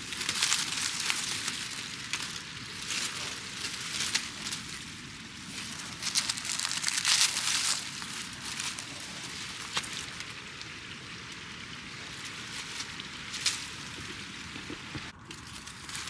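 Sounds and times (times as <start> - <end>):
dry leaves rustling and crinkling: 0.0 - 16.0.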